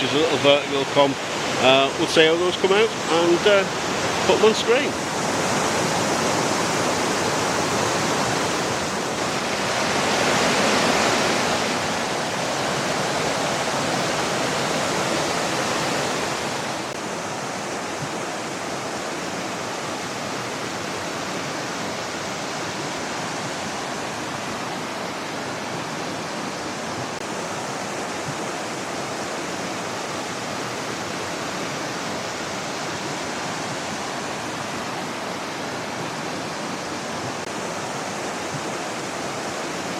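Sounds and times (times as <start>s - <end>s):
river rushing over boulders: 0.0s - 39.9s.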